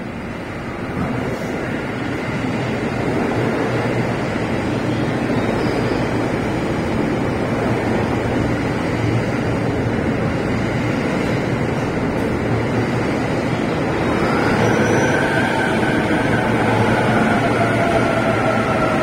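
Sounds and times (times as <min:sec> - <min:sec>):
electric train rolling past: 0:00.0 - 0:19.0
wheels rumbling on rail: 0:00.0 - 0:19.0.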